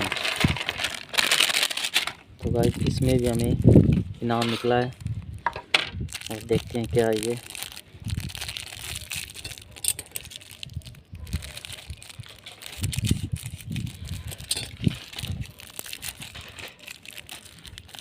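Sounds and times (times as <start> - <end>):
crinkly plastic wrapping crackling: 0.0 - 18.0.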